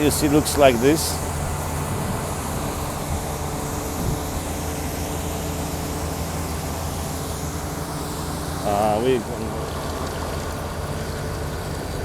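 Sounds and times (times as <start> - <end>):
combine engine running: 0.0 - 12.0.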